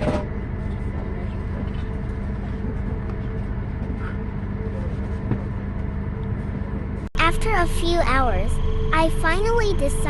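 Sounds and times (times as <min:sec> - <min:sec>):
faint even hum: 0:00.0 - 0:10.0.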